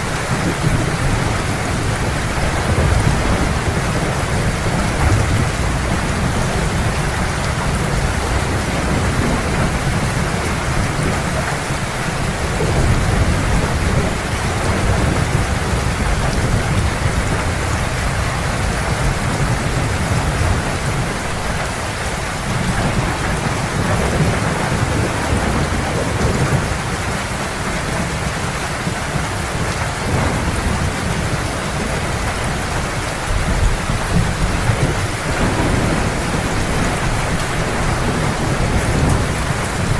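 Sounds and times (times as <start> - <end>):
distant thunder rumble: 0.0 - 39.9
heavy rain pouring: 0.0 - 39.9.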